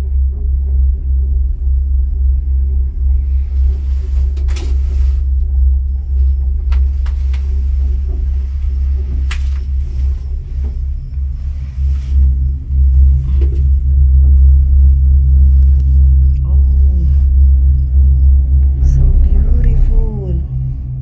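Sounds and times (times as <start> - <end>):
low rumble in gondola cabin: 0.0 - 21.0.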